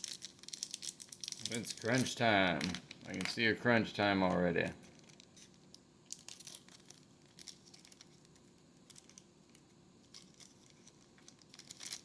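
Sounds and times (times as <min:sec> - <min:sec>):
wrapper crinkling: 0:00.0 - 0:03.4, 0:04.8 - 0:09.2, 0:10.0 - 0:12.0.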